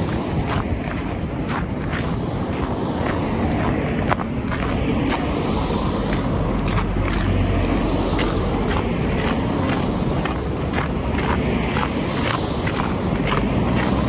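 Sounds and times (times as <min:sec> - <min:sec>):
footsteps walking: 0:00.0 - 0:14.0
road traffic rumble: 0:00.0 - 0:14.0.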